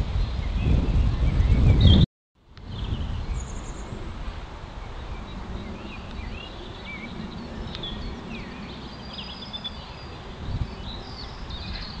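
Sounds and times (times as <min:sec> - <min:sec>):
songbirds chirping and whistling: 0:00.1 - 0:02.0, 0:02.6 - 0:12.0.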